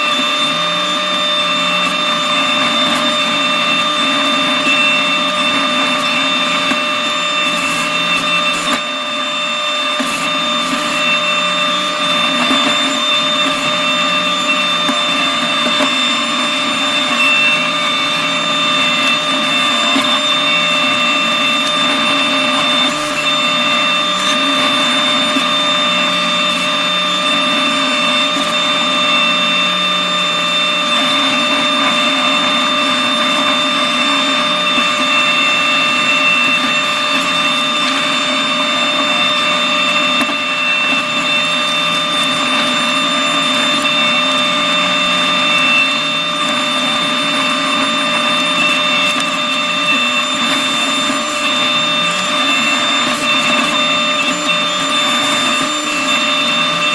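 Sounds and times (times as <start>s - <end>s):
mulching head high whine: 0.0s - 56.9s.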